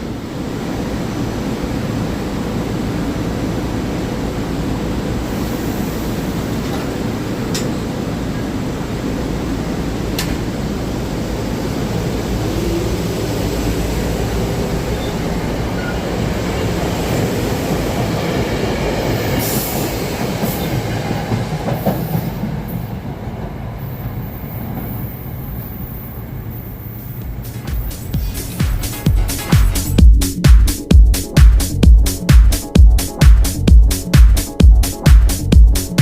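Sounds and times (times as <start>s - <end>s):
train wheels rumbling on track: 0.0s - 36.0s.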